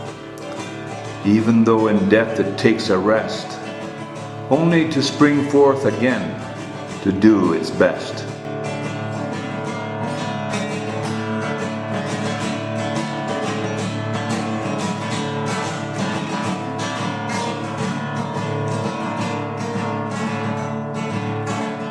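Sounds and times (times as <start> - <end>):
acoustic guitar strumming: 0.0 - 21.9.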